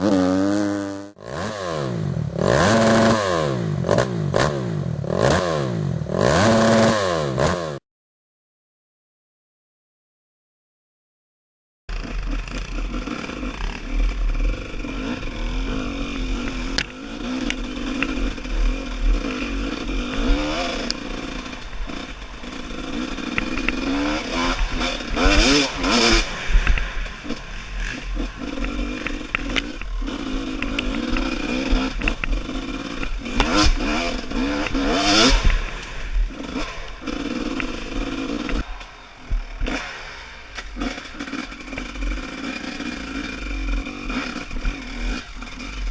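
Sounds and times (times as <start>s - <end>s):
motorcycle engine revving: 0.0s - 7.8s, 11.9s - 45.9s.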